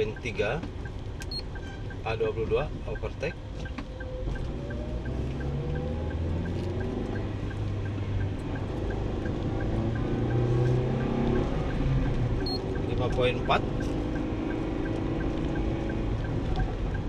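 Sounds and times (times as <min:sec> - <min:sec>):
faint regular ticking: 0:00.0 - 0:17.0
road noise inside car: 0:00.0 - 0:17.0
car engine accelerating: 0:03.2 - 0:17.0.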